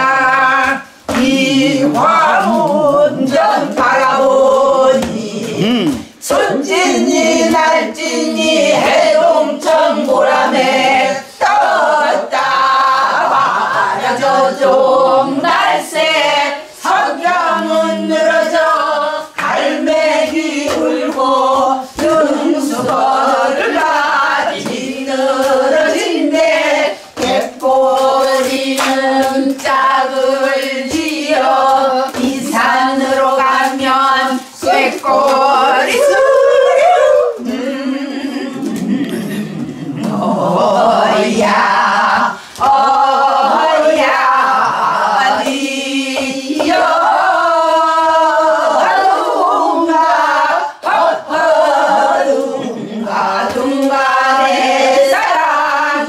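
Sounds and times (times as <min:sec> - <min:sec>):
group singing in unison: 0:00.0 - 0:56.0.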